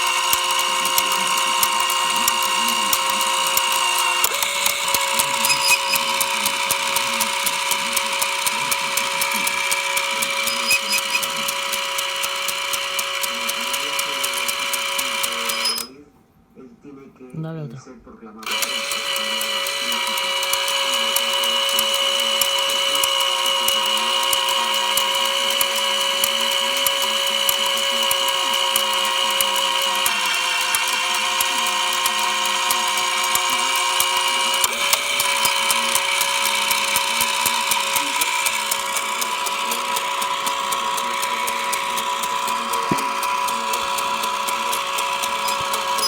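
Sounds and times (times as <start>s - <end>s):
motor whine: 0.0s - 15.9s, 18.4s - 46.0s
rapid ratcheting clicks: 0.0s - 15.9s, 18.4s - 46.0s.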